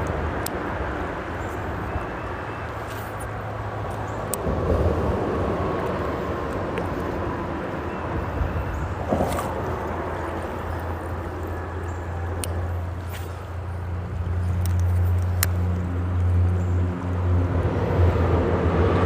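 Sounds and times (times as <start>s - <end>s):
creek water flowing: 0.0s - 19.0s
freeway traffic rumble: 0.0s - 19.0s
vehicle passing: 0.0s - 19.0s.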